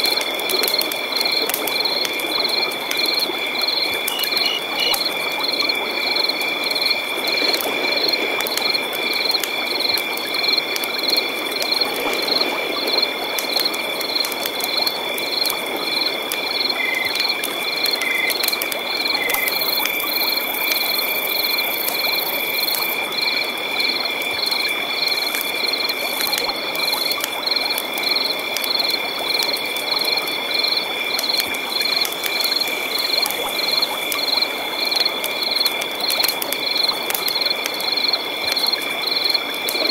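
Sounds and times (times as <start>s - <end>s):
flowing river water: 0.0s - 39.9s
frogs and insects trilling: 0.0s - 39.9s.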